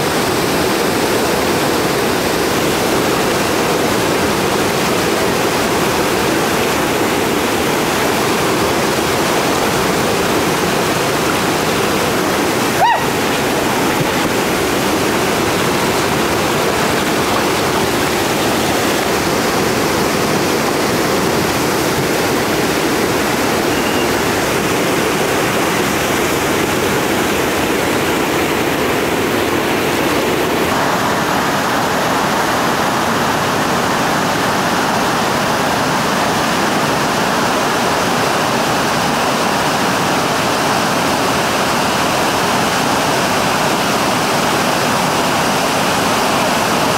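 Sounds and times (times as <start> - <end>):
whitewater rapid roaring: 0.0 - 46.9.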